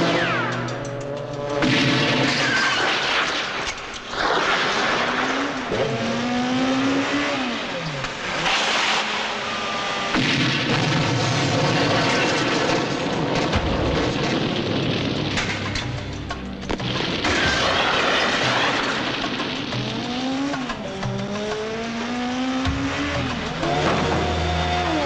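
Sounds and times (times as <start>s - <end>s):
car engine revving: 0.0s - 13.3s, 15.8s - 25.0s
action movie noise: 0.0s - 25.0s.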